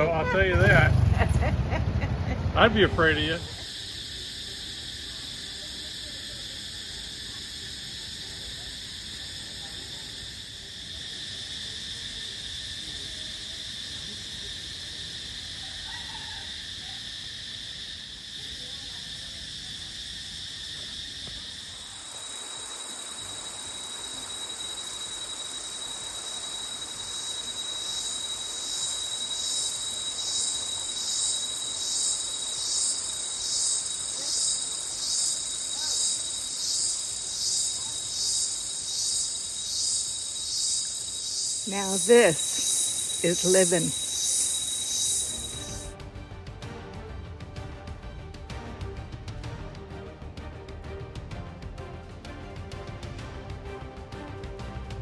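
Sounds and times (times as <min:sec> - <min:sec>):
insects chirring: 0:00.0 - 0:46.0
pulsing insect call: 0:00.0 - 0:46.0.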